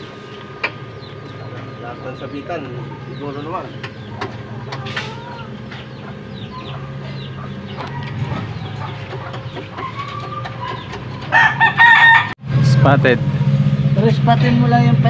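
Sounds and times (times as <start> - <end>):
chickens clucking and chirping: 0.0 - 12.2.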